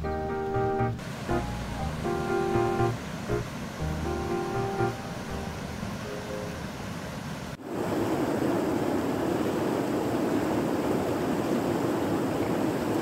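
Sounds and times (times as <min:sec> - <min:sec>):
river water rushing: 0:01.0 - 0:13.0.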